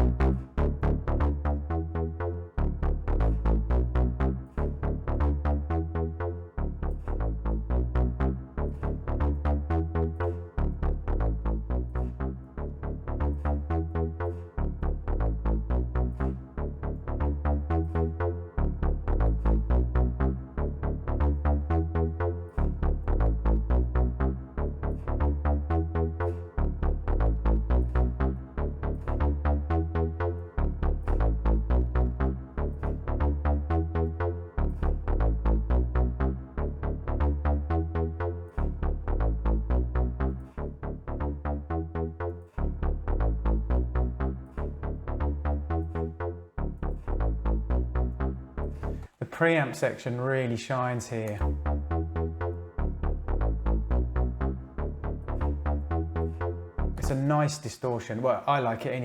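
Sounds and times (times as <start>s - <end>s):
distorted synth bass line: 0.0s - 49.2s, 51.3s - 57.4s.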